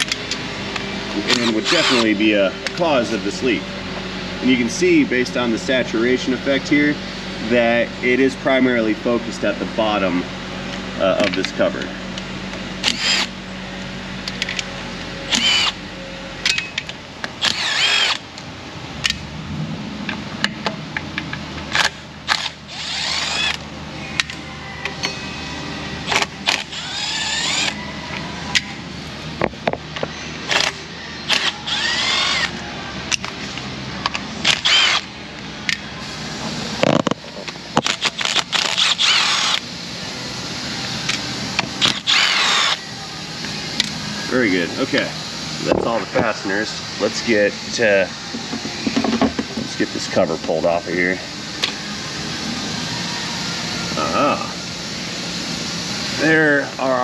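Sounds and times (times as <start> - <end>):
power driver motor whine: 0.0 - 19.2, 21.7 - 57.0.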